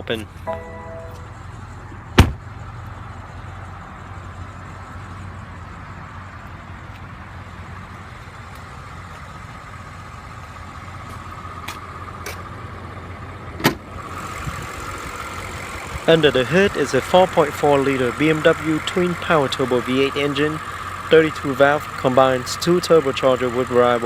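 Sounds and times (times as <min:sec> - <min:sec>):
car engine idling: 0:00.1 - 0:24.0.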